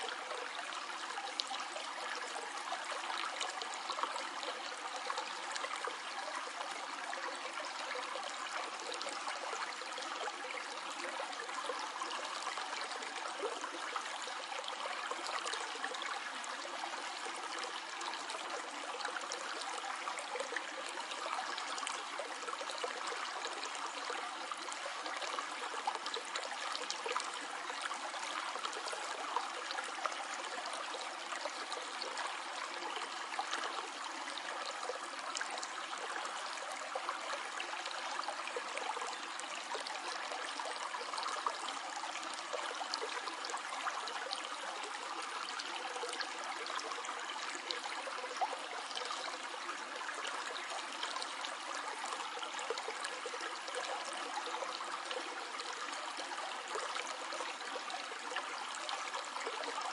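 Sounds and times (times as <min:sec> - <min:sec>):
stream flowing with splashes: 0:00.0 - 0:59.9.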